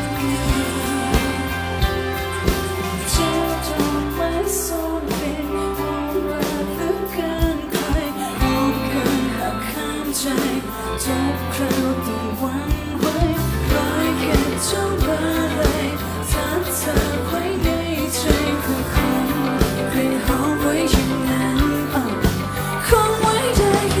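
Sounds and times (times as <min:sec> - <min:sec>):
bass guitar: 0:00.0 - 0:24.0
drum kit: 0:00.0 - 0:24.0
guitar: 0:00.0 - 0:24.0
woman singing lead: 0:00.0 - 0:24.0.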